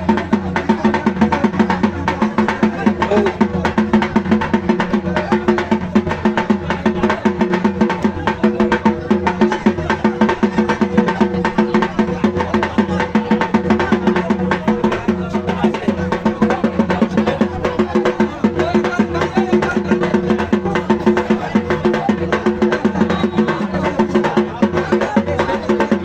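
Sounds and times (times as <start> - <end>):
fast percussion music: 0.0 - 26.0.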